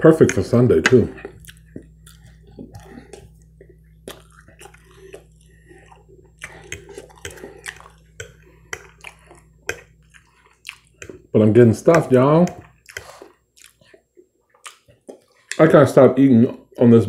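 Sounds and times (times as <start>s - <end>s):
chewing and mouth smacking: 0.2s - 11.3s, 11.9s - 15.7s.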